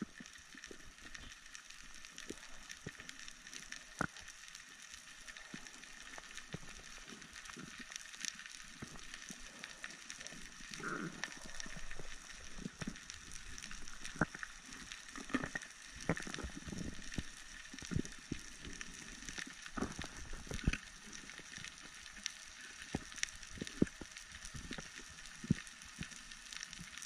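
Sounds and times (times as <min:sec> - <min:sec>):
underwater crackling: 0:00.0 - 0:27.0.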